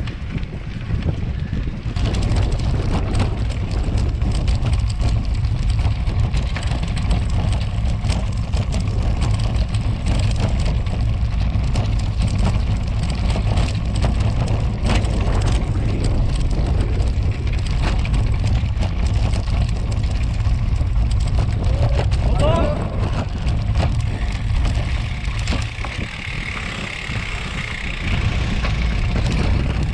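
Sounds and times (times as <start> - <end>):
bike rattling over cobblestones: 0.0 - 29.9.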